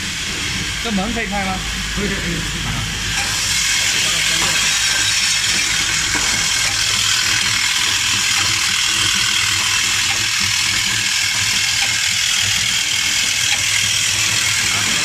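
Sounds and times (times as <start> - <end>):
packaging machine hissing and clattering: 0.0 - 15.0.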